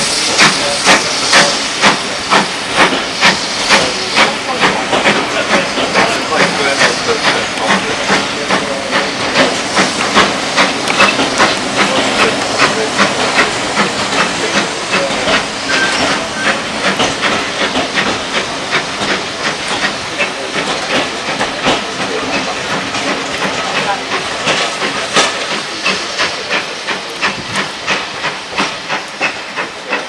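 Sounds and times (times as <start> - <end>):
locomotive exhaust chuffs: 0.0 - 30.0
steam hissing: 0.0 - 30.0.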